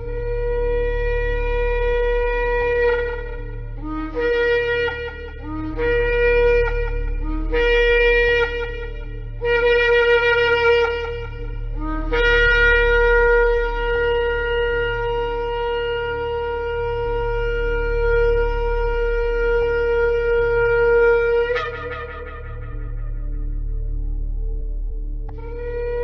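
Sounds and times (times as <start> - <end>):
shofar blasts: 0.0 - 24.6, 25.3 - 26.0
steady low hum: 0.0 - 26.0.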